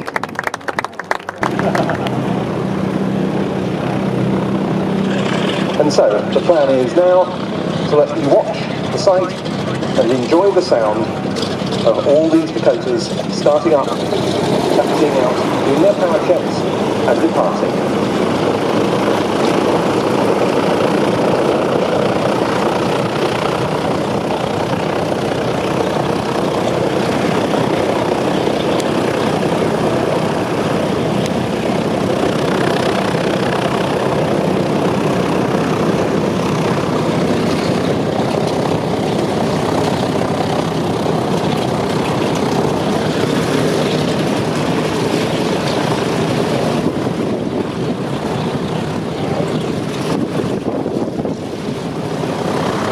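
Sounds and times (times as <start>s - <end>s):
propeller plane engines droning: 0.0s - 52.9s.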